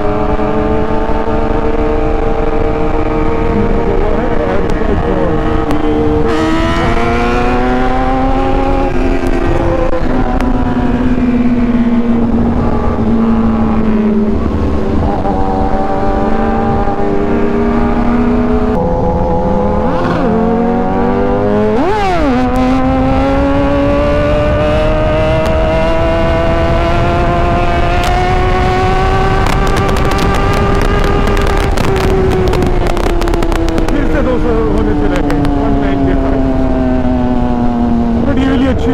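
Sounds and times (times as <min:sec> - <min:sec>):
motorcycle engine at speed: 0:00.0 - 0:38.9
wind rushing over microphone: 0:00.0 - 0:38.9.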